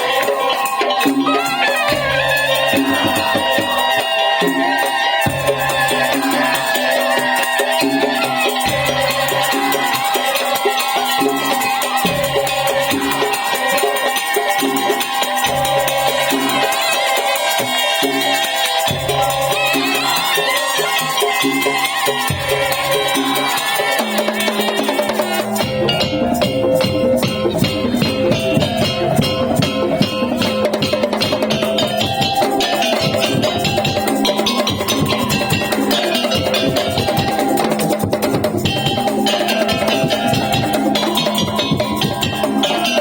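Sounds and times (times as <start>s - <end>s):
shakers and jingles rattling: 0.0s - 43.0s.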